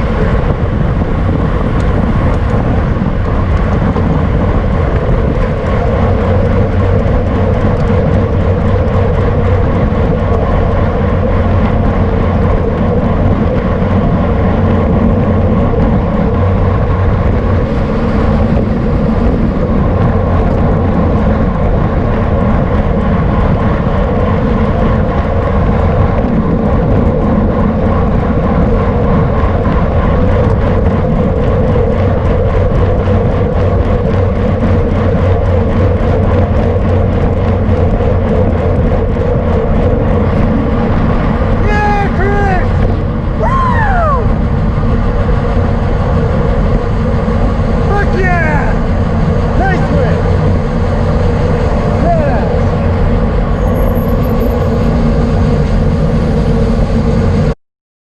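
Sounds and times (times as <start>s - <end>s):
wind noise on microphone: 0.0s - 57.6s.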